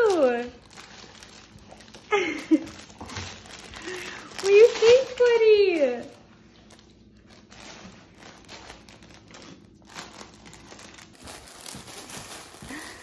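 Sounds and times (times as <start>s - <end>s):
fabric toy crinkling: 0.0s - 13.0s.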